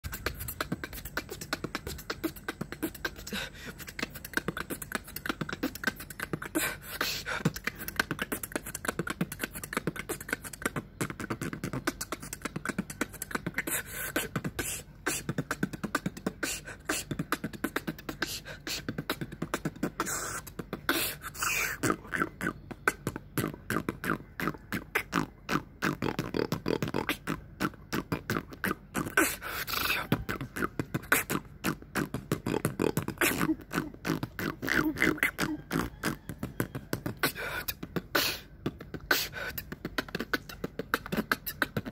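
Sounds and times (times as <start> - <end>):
beatboxing mouth percussion: 0.0 - 41.9.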